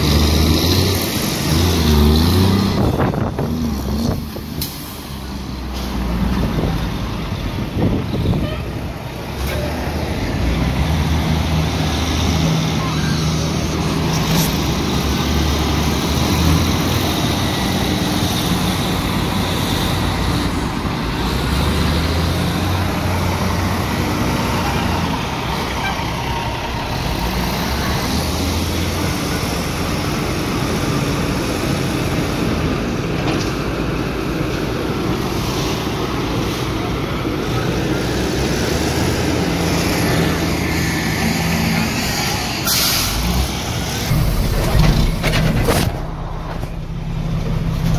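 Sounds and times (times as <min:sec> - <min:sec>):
diesel truck engines idling: 0:00.0 - 0:47.9.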